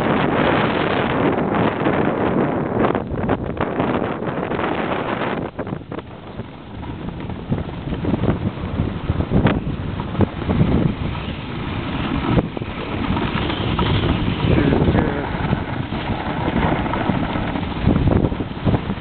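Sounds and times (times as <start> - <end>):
wind buffeting microphone: 0.0 - 19.0
skis scraping over snow: 0.1 - 19.0.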